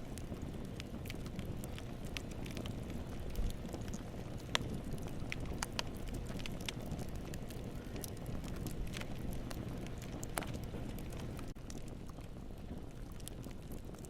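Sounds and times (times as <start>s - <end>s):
burning wood crackling and popping: 0.0s - 14.0s
flames hissing and rumbling: 0.0s - 14.0s.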